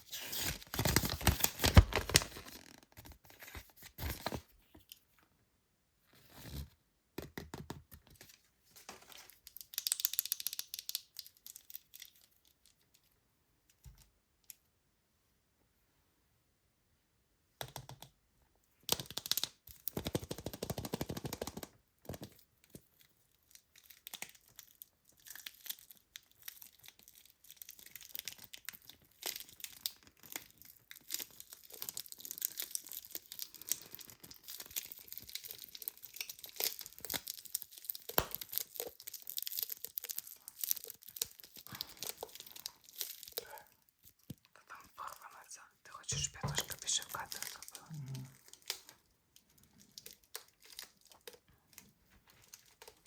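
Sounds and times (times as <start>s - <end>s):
packaging crinkling and tearing: 0.0s - 5.0s, 8.2s - 12.8s, 18.9s - 45.4s, 46.0s - 53.0s.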